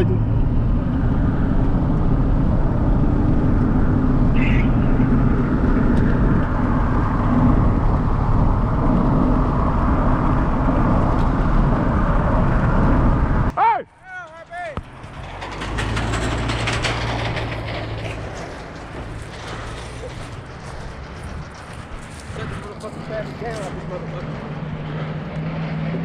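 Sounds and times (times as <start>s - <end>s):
pickup truck engine rumble: 0.0s - 13.5s, 14.7s - 26.0s
road noise: 0.0s - 26.0s.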